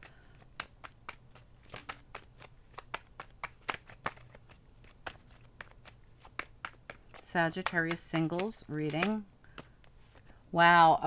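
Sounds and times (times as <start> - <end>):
cards being shuffled: 0.0 - 10.4.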